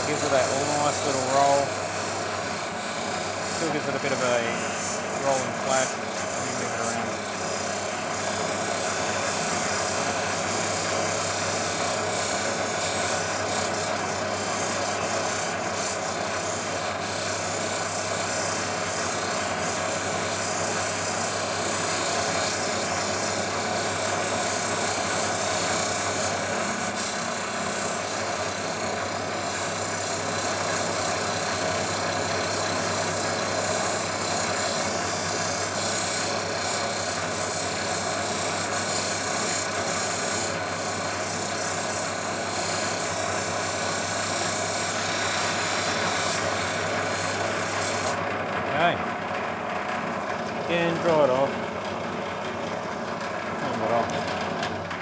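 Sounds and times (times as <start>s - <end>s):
motor humming: 0.0s - 55.0s.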